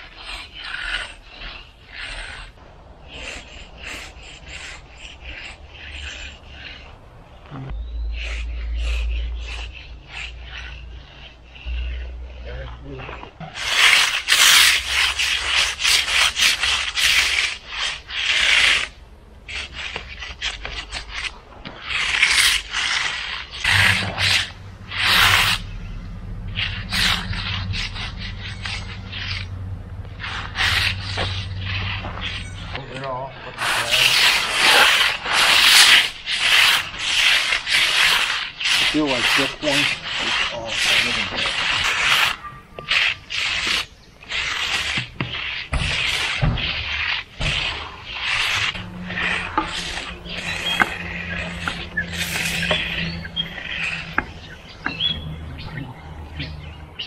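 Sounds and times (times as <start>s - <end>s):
tool scraping wet concrete: 0.0s - 57.0s.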